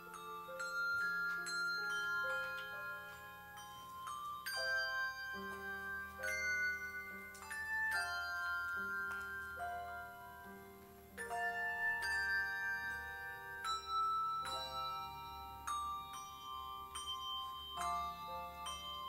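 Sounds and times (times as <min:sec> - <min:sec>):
handbell chords ringing: 0:00.0 - 0:19.0.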